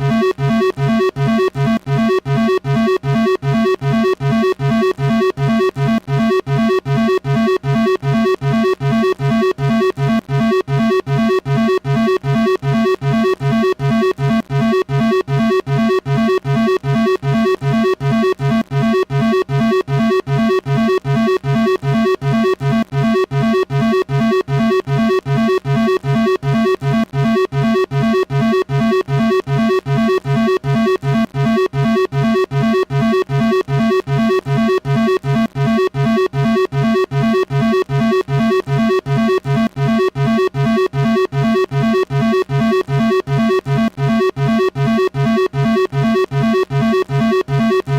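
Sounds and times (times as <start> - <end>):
pulsing buzzy alarm tone: 0.0 - 47.9.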